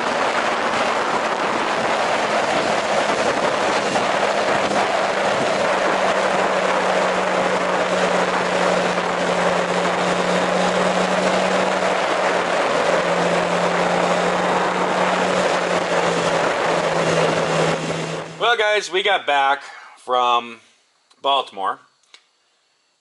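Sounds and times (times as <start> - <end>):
wind rush over camera: 0.0 - 18.5
motorcycle engine drone: 0.0 - 21.2.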